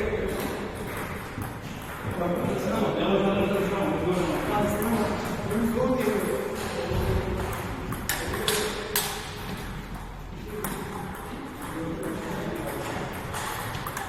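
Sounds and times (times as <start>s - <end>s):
table tennis ball hits: 0.1s - 2.7s, 4.0s - 14.0s.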